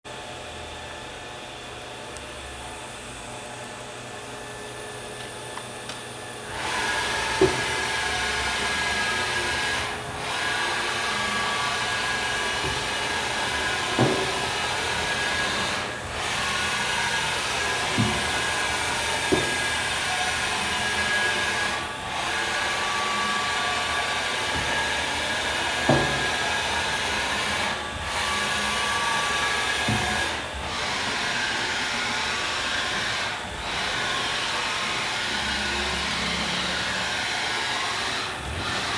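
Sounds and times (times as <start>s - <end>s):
machine whirring and whining: 0.1s - 38.9s.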